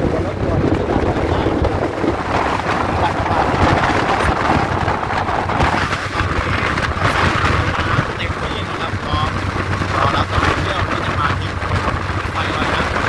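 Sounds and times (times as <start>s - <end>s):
train running rumble: 0.0s - 13.0s
wind rushing over microphone: 0.0s - 13.0s.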